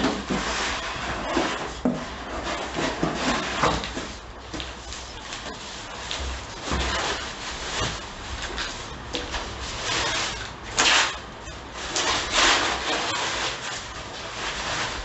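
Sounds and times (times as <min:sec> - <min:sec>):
packing wrap rustling and crinkling: 0:00.0 - 0:15.0.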